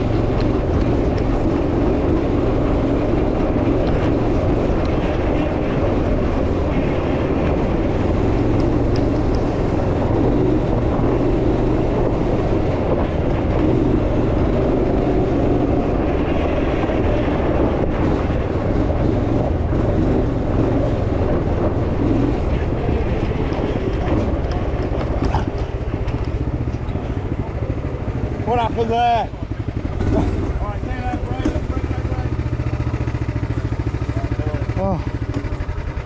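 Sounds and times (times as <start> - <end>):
buggy engine running under load: 0.0 - 36.0.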